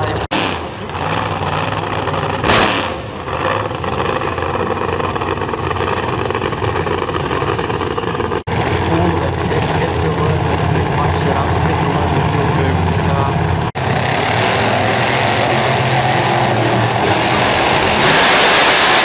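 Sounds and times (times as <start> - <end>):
drag-racing engine running: 0.0 - 19.0
engine revving: 0.0 - 19.0.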